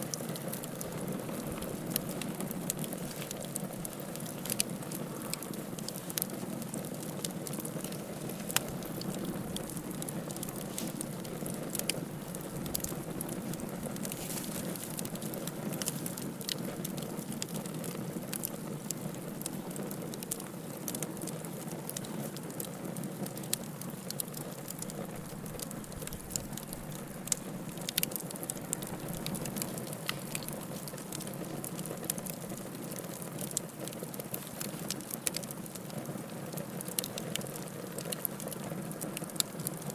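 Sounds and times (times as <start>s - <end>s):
open fire crackling: 0.0s - 39.9s.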